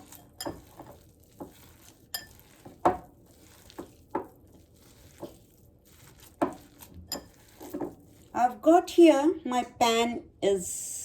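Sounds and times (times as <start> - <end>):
food mixed in a bowl: 0.0 - 9.8.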